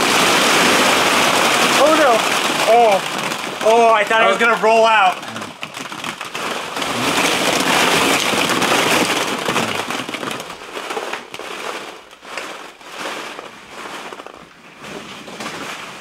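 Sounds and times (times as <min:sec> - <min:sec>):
plastic balls clattering: 0:00.0 - 0:16.0.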